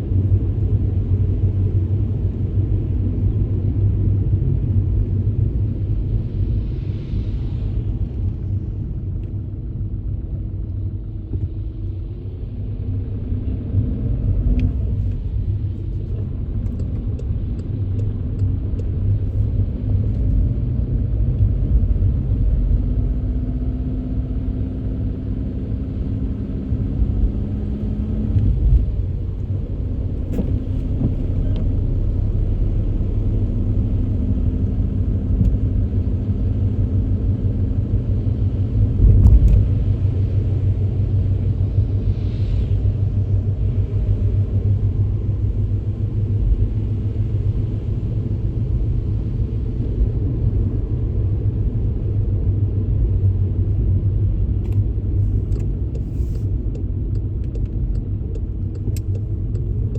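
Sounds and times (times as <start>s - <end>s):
engine and tyres rumbling: 0.0s - 59.9s
engine hum: 0.0s - 59.9s.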